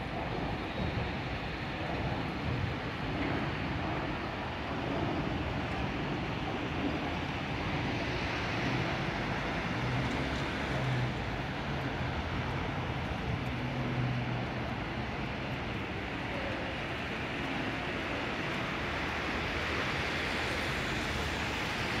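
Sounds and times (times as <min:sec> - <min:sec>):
city traffic noise: 0:00.0 - 0:22.0.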